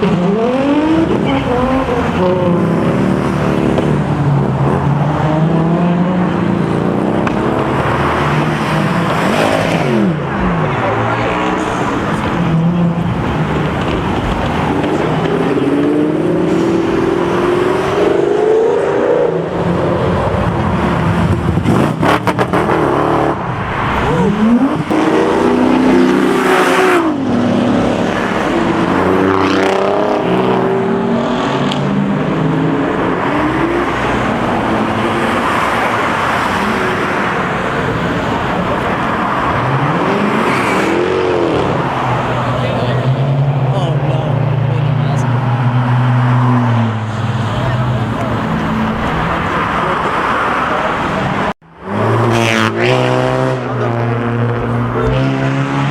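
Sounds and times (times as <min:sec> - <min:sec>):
cars revving and accelerating: 0:00.0 - 0:55.9.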